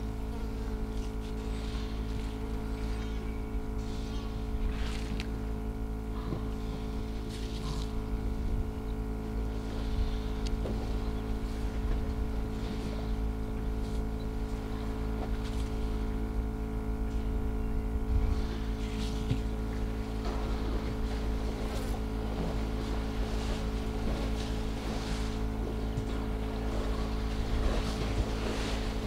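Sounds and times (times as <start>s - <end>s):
engine idling: 0.0s - 29.0s
low rumble: 0.0s - 29.0s.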